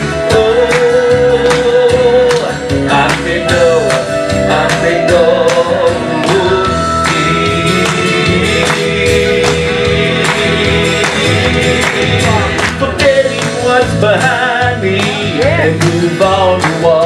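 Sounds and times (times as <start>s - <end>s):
gospel instrumental accompaniment: 0.0s - 17.0s
person singing: 0.0s - 17.0s.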